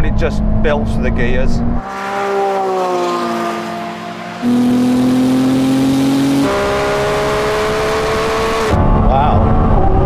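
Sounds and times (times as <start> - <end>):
race car engine revving: 0.0 - 10.0.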